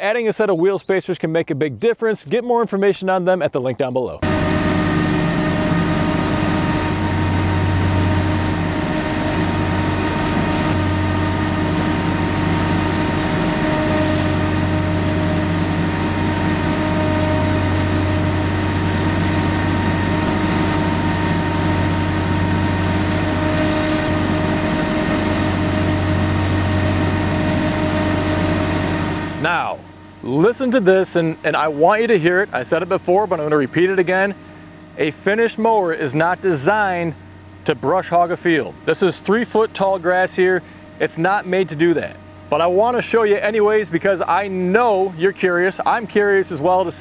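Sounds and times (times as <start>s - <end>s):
tractor diesel engine running: 4.2s - 47.0s.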